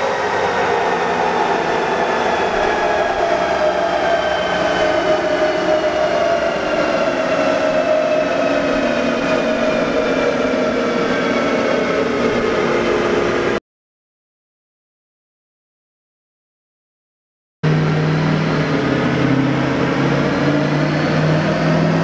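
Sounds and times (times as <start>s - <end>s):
dyno rollers mechanical rumble: 0.0s - 13.6s, 17.7s - 22.0s
falling whining tones: 0.0s - 13.6s, 17.7s - 22.0s.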